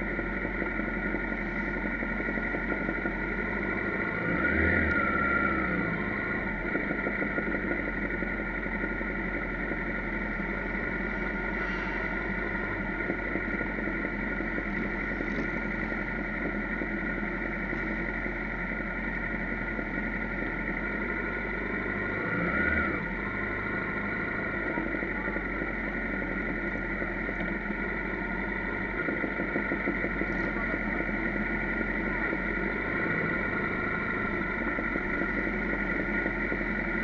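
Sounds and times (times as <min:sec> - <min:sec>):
motorcycle engines at low speed: 0:00.0 - 0:37.0.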